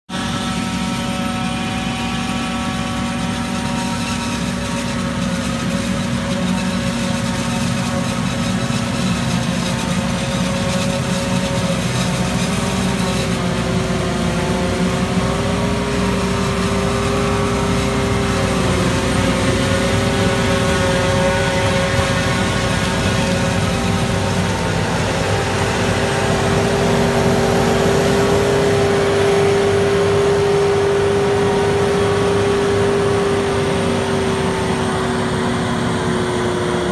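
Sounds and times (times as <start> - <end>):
harvester machinery drone: 0.1 - 36.9.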